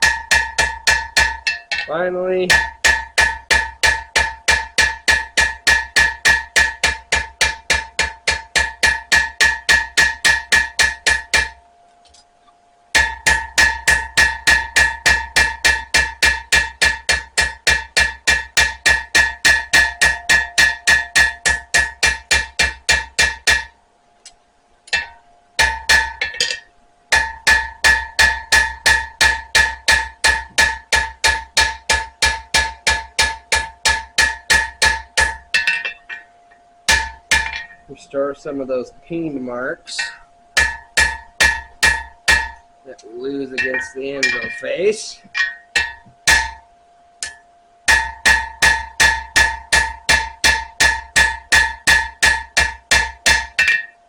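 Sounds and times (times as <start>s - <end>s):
hammer ringing on anvil: 0.0s - 11.6s, 13.0s - 23.7s, 24.9s - 36.3s, 36.9s - 37.9s, 39.9s - 42.6s, 43.4s - 46.6s, 47.2s - 54.0s.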